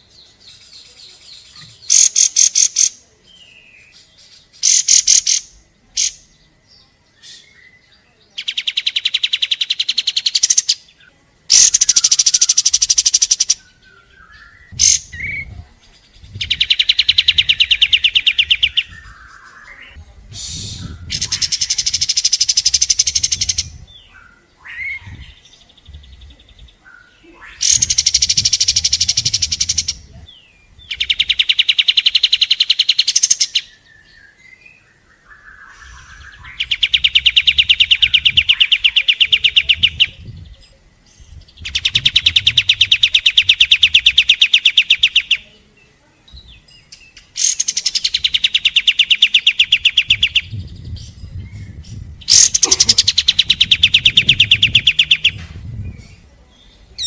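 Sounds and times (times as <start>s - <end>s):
bird singing fast trills: 0.0s - 20.0s, 20.6s - 57.0s.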